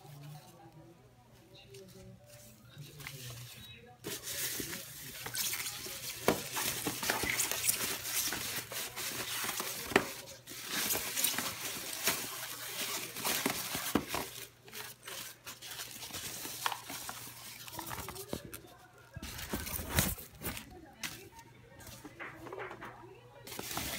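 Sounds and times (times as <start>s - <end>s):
plastic bags rustling and crinkling: 1.7s - 23.9s.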